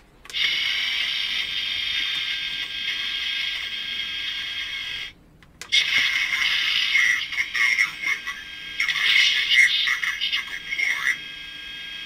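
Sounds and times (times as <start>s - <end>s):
toy mechanical whirring: 0.3s - 12.0s.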